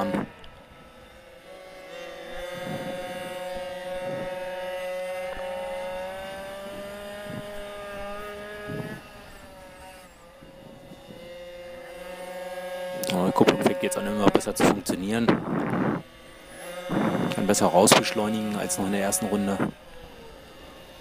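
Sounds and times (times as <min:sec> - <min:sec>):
two-stroke minibike engine revving: 0:00.0 - 0:21.0.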